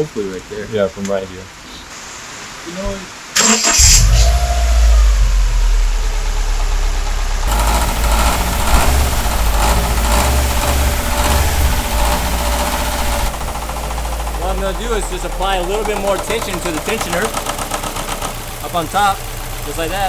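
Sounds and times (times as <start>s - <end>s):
car engine starting and idling: 3.3s - 20.0s.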